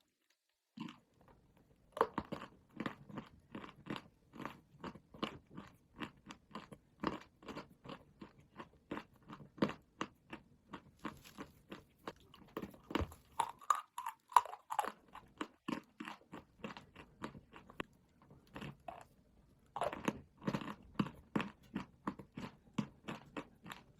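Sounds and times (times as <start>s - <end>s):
chalk crunching while chewed: 0.8s - 23.9s.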